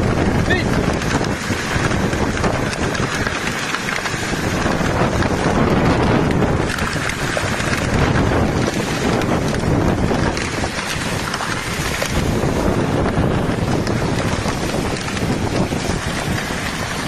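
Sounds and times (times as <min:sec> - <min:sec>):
hail and rain pelting: 0:00.0 - 0:17.0
wind buffeting microphone: 0:00.0 - 0:17.0.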